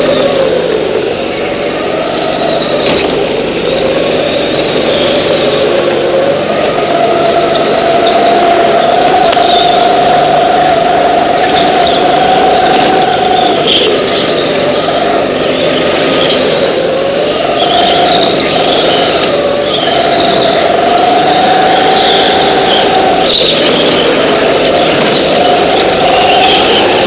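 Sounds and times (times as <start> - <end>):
go-kart engine at high revs: 0.0 - 27.0.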